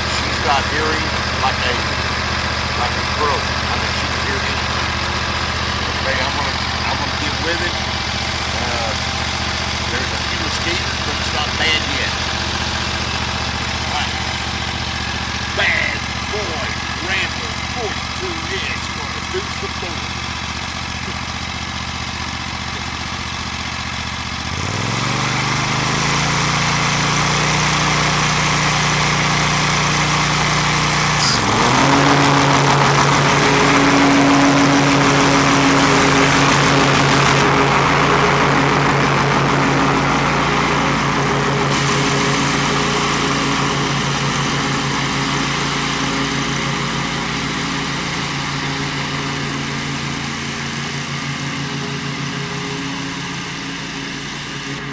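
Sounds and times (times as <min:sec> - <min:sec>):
mower engine running: 0:00.0 - 0:54.9.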